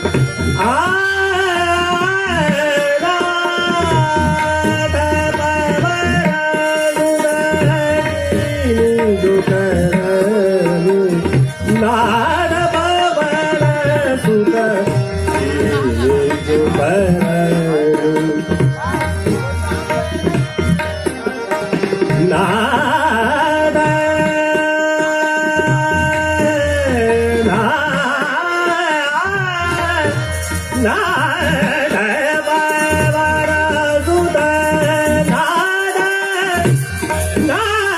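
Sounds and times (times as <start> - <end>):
harmonium: 0.0 - 37.9
tabla: 0.0 - 37.9
man singing ornamented phrases: 0.6 - 20.3, 22.1 - 37.9.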